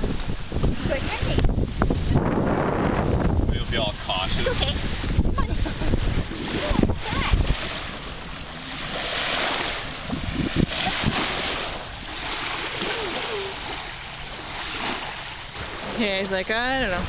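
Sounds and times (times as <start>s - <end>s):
small waves washing on shore: 0.0s - 17.0s
wind on microphone: 0.0s - 17.0s.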